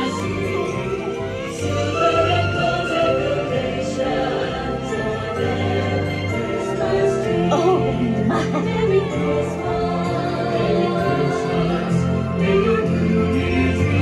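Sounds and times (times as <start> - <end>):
choir singing over orchestra: 0.0 - 14.0.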